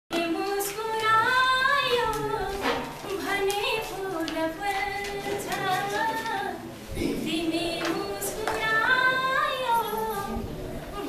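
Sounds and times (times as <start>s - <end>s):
woman chanting melodically: 0.2s - 11.0s.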